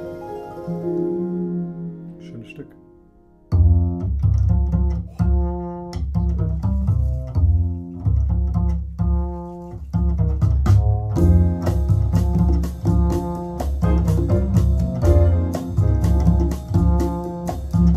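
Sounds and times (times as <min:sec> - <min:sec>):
jazz music: 0:00.0 - 0:17.9
plucked double bass: 0:03.4 - 0:17.9.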